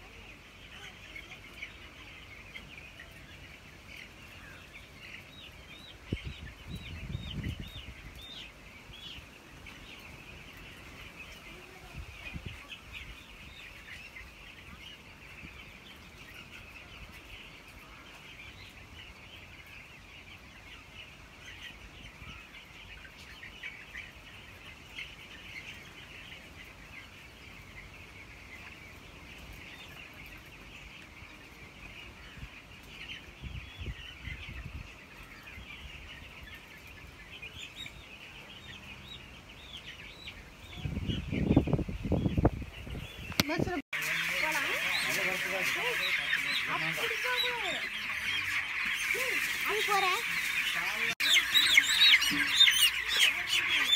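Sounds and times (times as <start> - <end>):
chicks peeping: 0.0 - 53.9.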